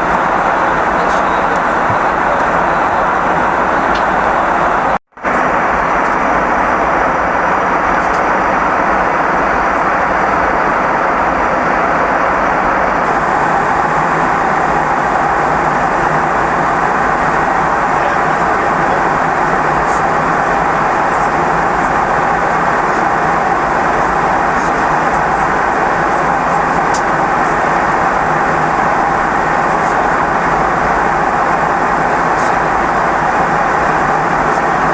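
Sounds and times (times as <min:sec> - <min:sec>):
aircraft cabin drone: 0:00.0 - 0:34.9.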